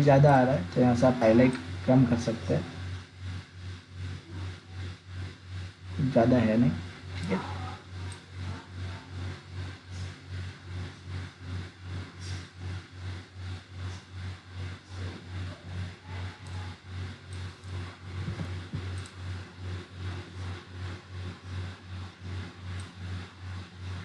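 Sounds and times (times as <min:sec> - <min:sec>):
pulsing machine hum: 0:00.0 - 0:24.0.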